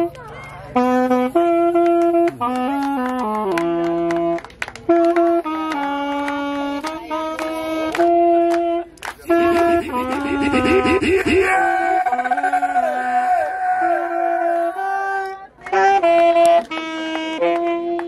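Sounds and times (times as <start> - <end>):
saxophone slow melody: 0.0 - 12.8, 13.8 - 18.0.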